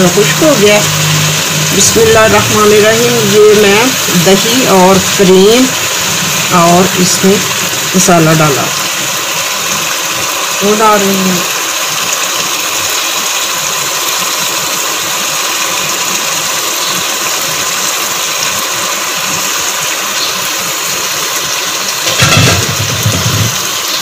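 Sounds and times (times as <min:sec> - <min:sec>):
sauce sizzling in a pot: 0:00.0 - 0:24.0.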